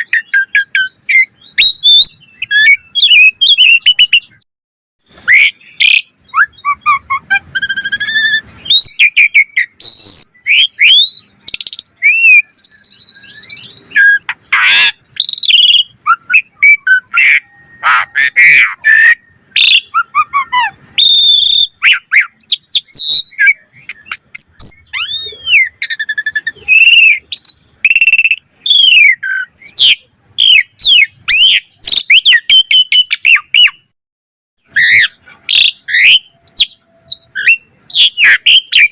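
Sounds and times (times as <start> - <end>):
starling singing: 0.0 - 4.4, 5.1 - 33.9, 34.6 - 38.9.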